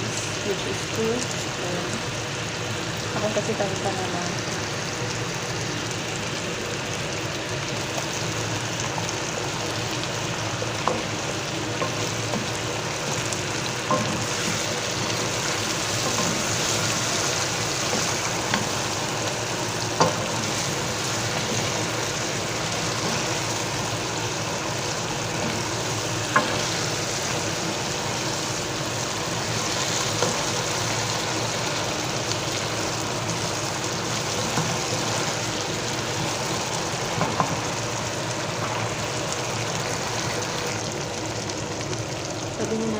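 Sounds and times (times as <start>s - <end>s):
food sizzling in a pot: 0.0s - 42.9s.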